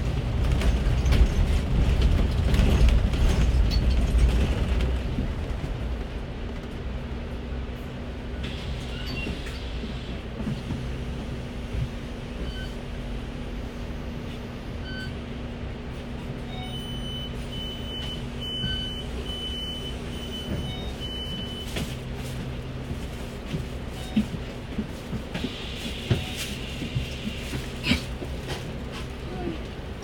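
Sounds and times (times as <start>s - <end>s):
bus engine hum: 0.0s - 30.0s.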